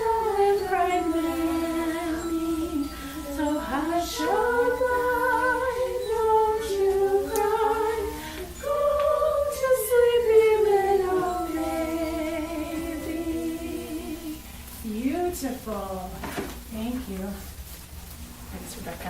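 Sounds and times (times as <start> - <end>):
unaccompanied voices singing: 0.0 - 17.4.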